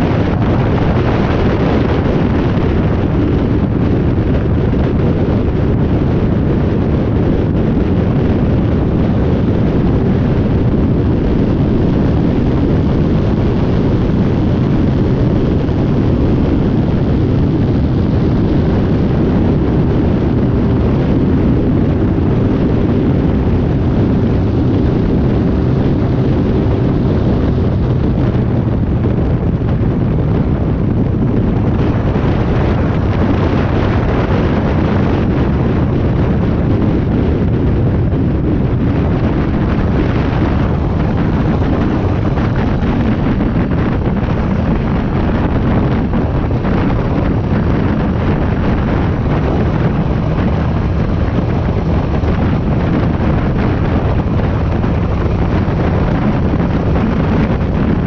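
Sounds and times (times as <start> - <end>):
motorcycle engine hum: 0.0 - 58.0
wind rush on microphone: 0.0 - 58.0.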